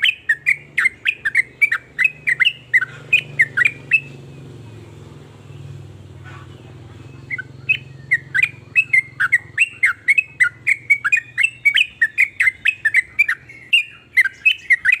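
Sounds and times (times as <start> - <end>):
bird singing chattering notes: 0.0 - 15.0.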